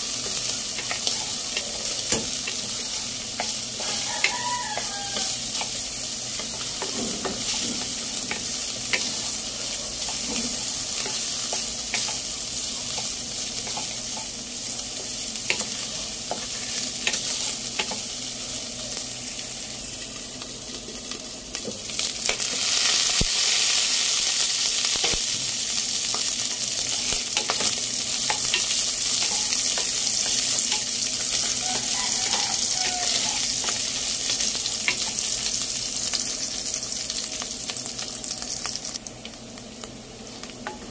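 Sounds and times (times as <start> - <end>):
meat sizzling in oil: 0.0 - 40.9.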